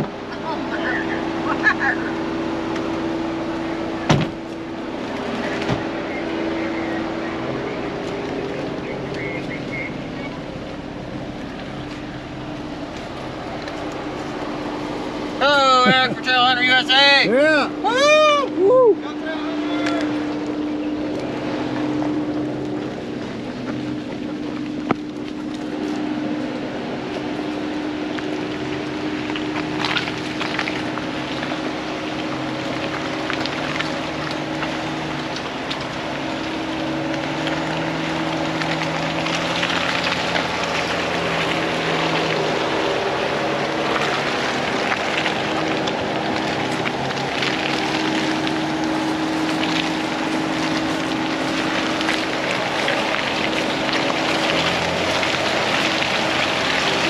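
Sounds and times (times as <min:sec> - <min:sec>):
vehicle engine drone: 0:00.0 - 0:57.0.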